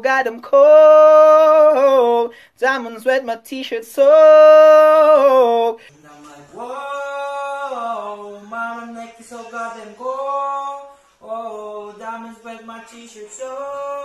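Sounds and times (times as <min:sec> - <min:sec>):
man singing a cappella: 0:00.0 - 0:14.0.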